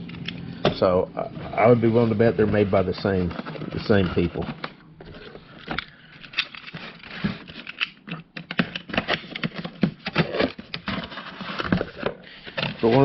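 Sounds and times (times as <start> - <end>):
packaging clicks and rustling: 2.5 - 13.0.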